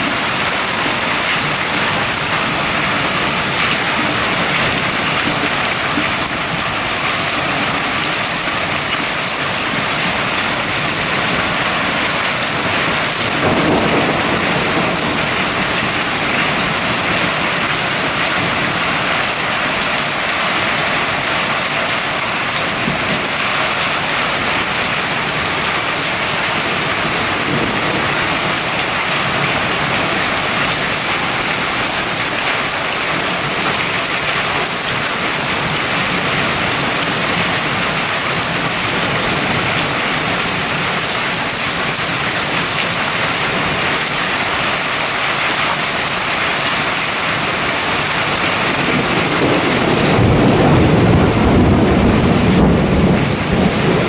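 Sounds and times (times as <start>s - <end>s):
thunder rumbling: 0.0s - 19.8s, 24.3s - 43.9s, 47.4s - 54.0s
heavy rain: 0.0s - 54.0s.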